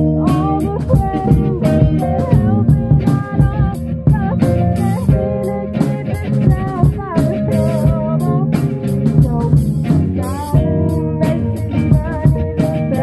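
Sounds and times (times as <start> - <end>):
drum kit: 0.0 - 13.0
electric guitar: 0.0 - 13.0
woman singing into microphone: 0.0 - 13.0.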